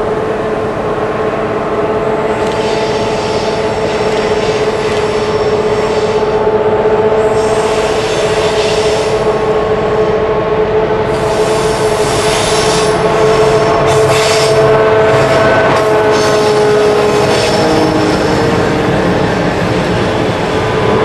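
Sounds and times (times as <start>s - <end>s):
diesel locomotive engines rumbling: 0.0s - 21.0s
train wheel squeal: 2.3s - 10.1s, 11.1s - 21.0s.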